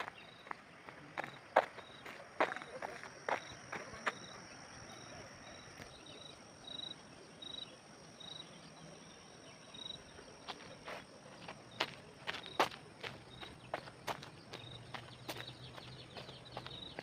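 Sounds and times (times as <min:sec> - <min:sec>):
faint background noise: 0:00.0 - 0:17.0
insects droning: 0:00.0 - 0:17.0.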